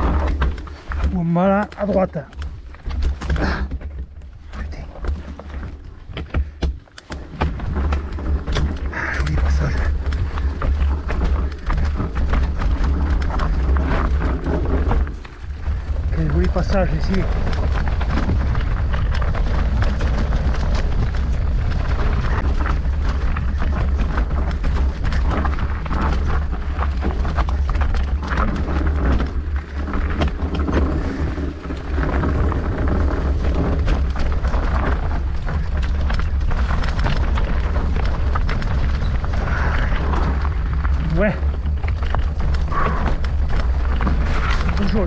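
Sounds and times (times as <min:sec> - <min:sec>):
bike knocking and rattling: 0:00.0 - 0:45.0
wind rumble on microphone: 0:00.0 - 0:45.0.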